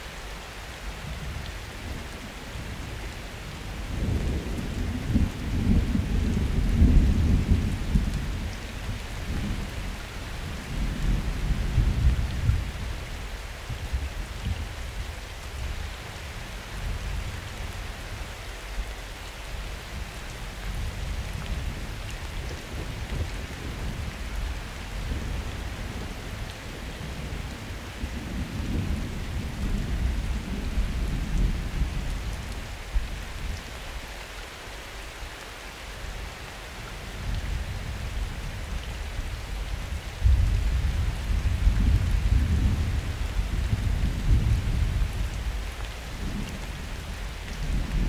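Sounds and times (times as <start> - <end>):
rain falling: 0.0 - 48.0.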